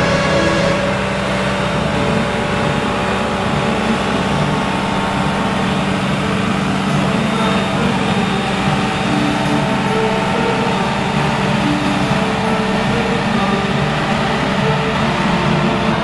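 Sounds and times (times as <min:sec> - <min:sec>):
paving machine engine running: 0:00.0 - 0:16.0.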